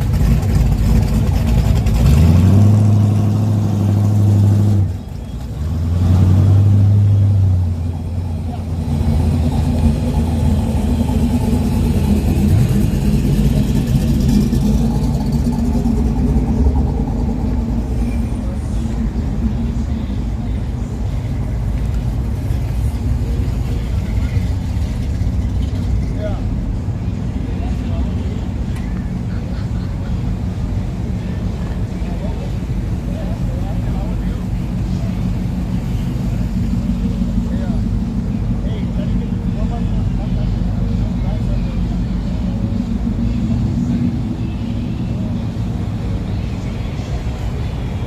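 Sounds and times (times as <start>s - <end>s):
truck engine revving: 0.0s - 48.0s
background voices: 4.8s - 48.0s.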